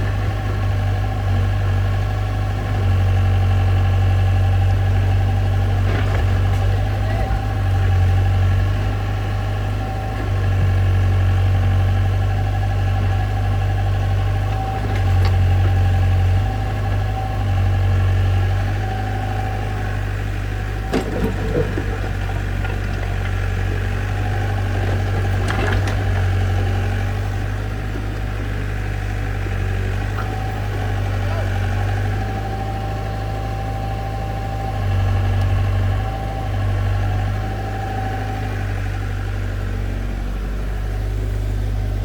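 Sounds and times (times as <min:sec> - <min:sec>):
heavy machine engine idling: 0:00.0 - 0:42.0.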